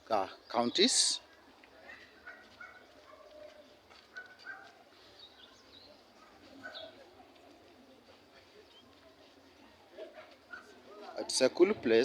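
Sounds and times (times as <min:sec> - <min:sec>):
distant calls and chirps: 0:00.0 - 0:11.5.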